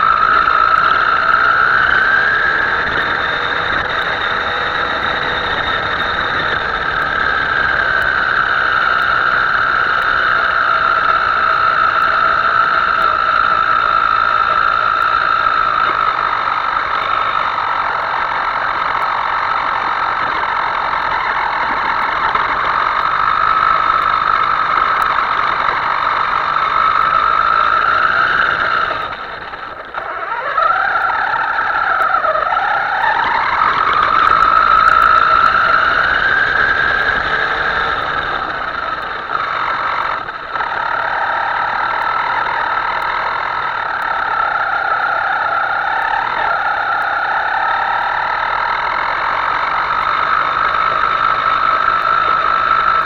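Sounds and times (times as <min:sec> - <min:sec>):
model motor high whine: 0:00.0 - 0:53.0.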